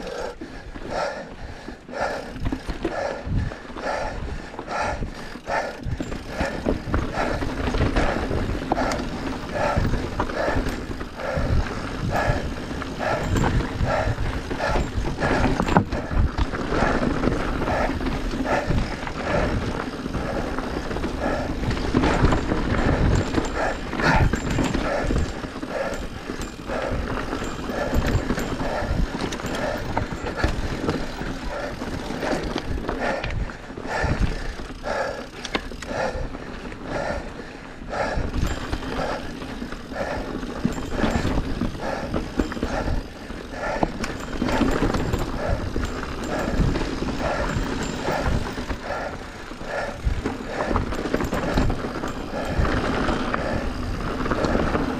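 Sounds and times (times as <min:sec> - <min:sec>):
bike rattling over rocks: 0:01.6 - 0:54.9
wind rumbling on microphone: 0:02.0 - 0:54.9.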